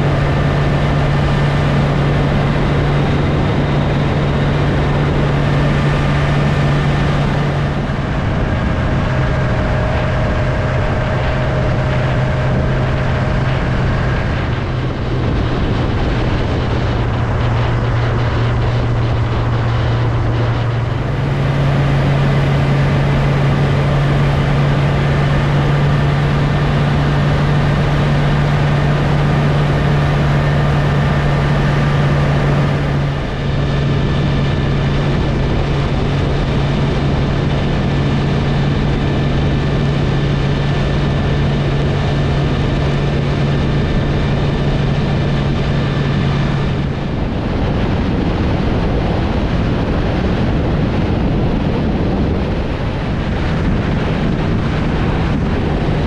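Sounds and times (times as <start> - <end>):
motorcycle engine cruising: 0.0 - 56.0
wind noise on microphone: 0.0 - 56.0.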